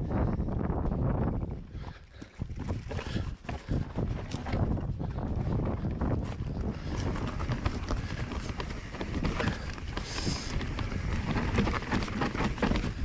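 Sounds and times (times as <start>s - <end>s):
bike tyres rumbling on trail: 0.0s - 13.0s
bike rattling: 0.8s - 13.0s.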